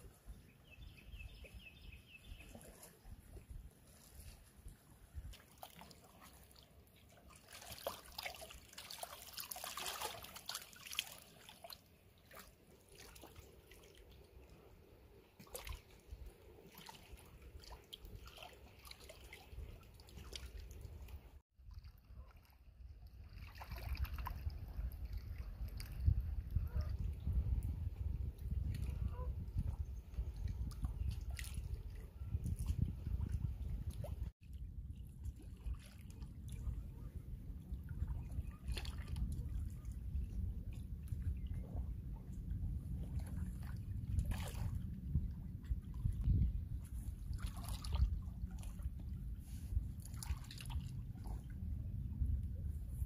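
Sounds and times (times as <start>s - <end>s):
stream water trickling: 0.0s - 34.4s, 35.0s - 52.4s
small water splashes: 1.3s - 4.4s, 5.2s - 27.2s, 28.4s - 34.6s, 35.2s - 36.9s, 37.6s - 42.0s, 42.8s - 46.5s, 47.1s - 51.5s.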